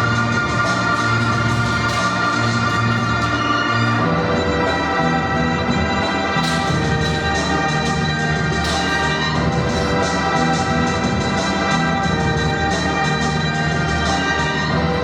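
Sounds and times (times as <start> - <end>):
held chords over pulsing bass: 0.0 - 15.0.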